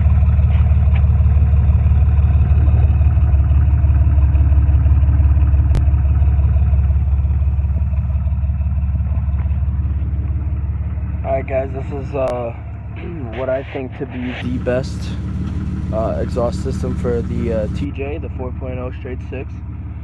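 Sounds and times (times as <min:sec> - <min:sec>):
engine idling with deep exhaust rumble: 0:00.0 - 0:20.0.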